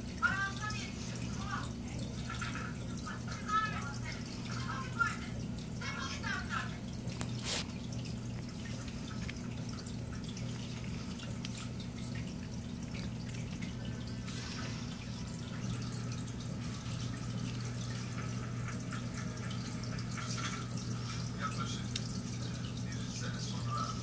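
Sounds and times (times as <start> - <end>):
aquarium filter hum: 0.0 - 24.0
water trickling and dripping: 0.0 - 24.0.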